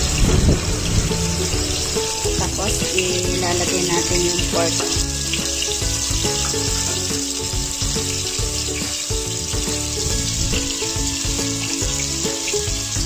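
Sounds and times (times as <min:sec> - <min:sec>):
background music with steady beat: 0:00.0 - 0:13.0
vegetables sizzling in hot oil: 0:00.0 - 0:13.0.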